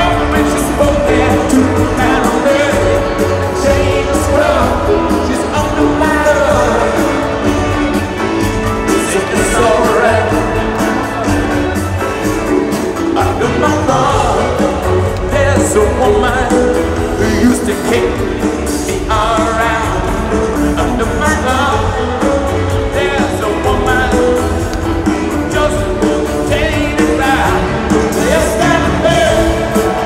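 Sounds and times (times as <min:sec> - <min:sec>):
drums: 0:00.0 - 0:30.0
electric guitars: 0:00.0 - 0:30.0
person singing: 0:00.0 - 0:30.0.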